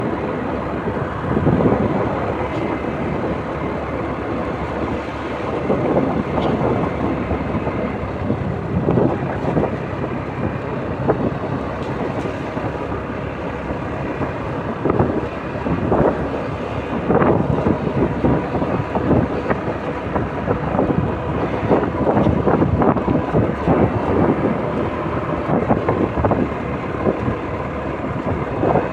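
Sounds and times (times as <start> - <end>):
vehicle rumble: 0.0 - 28.9
wind buffeting microphone: 0.0 - 28.9.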